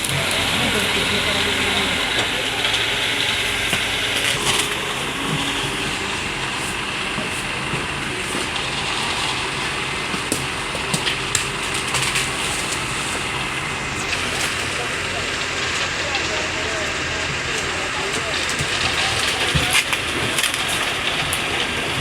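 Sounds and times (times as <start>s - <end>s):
diesel machinery engines running: 0.0s - 22.0s.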